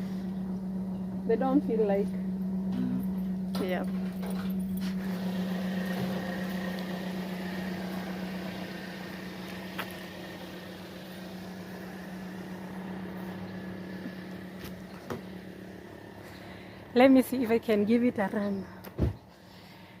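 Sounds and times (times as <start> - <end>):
engine running with even hum: 0.0 - 20.0.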